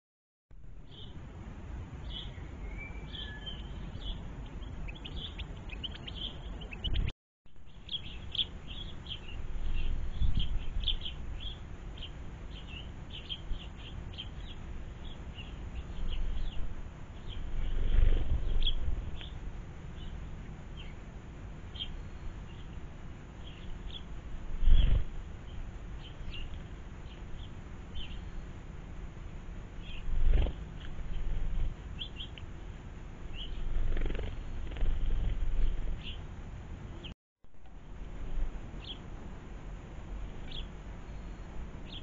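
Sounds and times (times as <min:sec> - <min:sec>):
small birds chirping: 0:00.8 - 0:01.2, 0:02.0 - 0:28.7, 0:29.8 - 0:32.6, 0:33.3 - 0:36.3, 0:38.2 - 0:39.1, 0:40.2 - 0:42.0.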